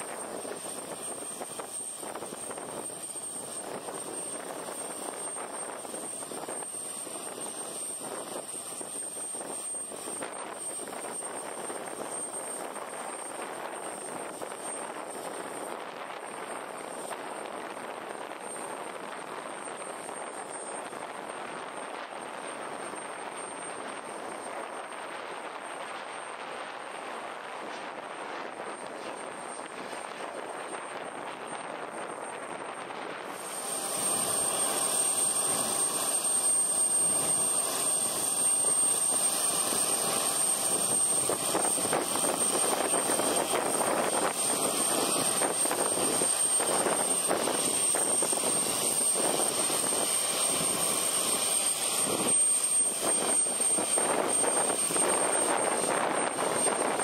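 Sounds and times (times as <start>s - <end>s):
distant jet engines droning: 0.0s - 57.0s.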